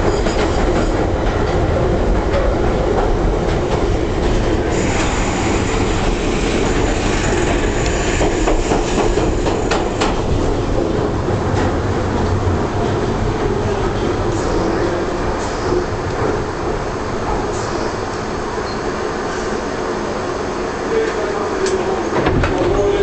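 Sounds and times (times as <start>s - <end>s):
train rumble and rattle: 0.0s - 23.0s.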